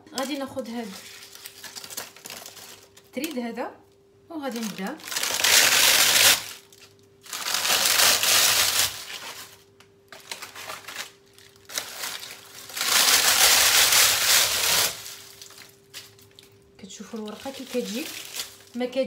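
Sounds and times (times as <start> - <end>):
crisp dough crunching: 0.2 - 3.4, 4.5 - 19.0.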